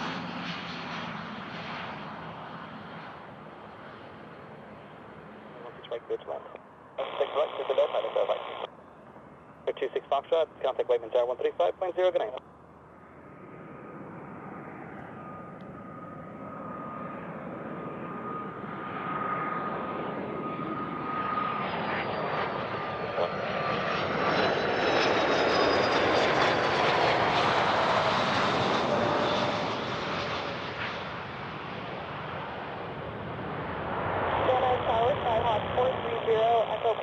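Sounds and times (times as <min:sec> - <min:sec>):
jet aircraft passing by: 0:00.0 - 0:37.0.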